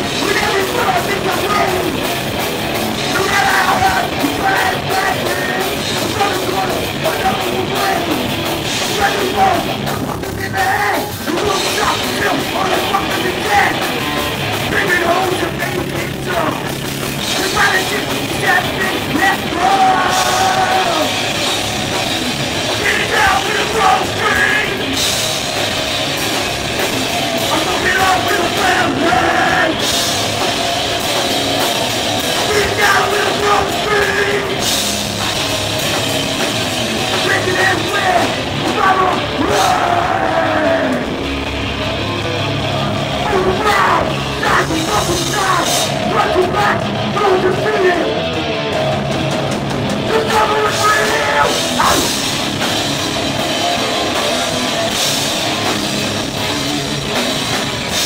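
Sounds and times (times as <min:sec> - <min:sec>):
hardcore band playing live: 0:00.0 - 0:58.0.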